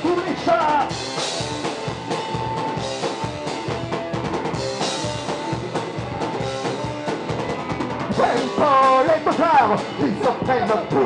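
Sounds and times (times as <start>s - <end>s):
drum kit beat: 0.0s - 11.0s
electric bass guitar: 0.0s - 11.0s.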